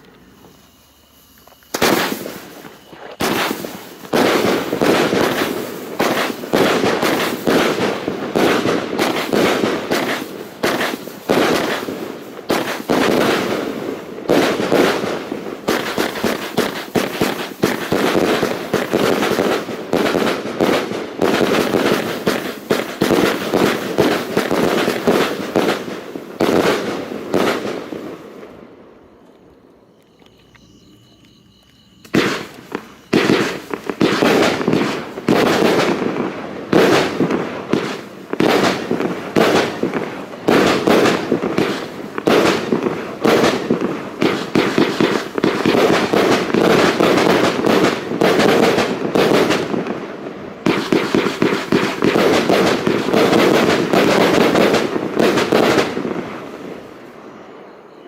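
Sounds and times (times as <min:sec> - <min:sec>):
fireworks crackle: 0:00.0 - 0:58.0
fireworks shots bursting: 0:00.0 - 0:58.0.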